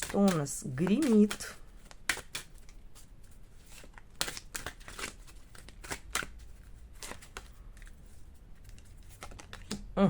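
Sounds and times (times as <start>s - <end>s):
cards being shuffled: 0.0s - 9.9s.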